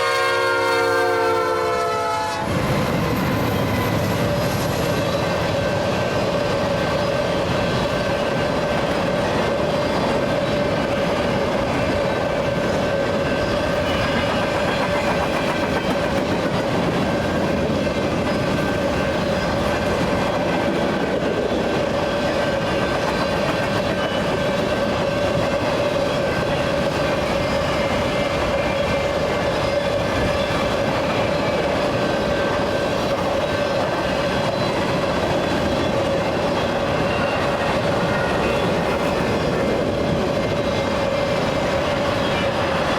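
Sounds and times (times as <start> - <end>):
freight train cars rolling: 0.0 - 42.9.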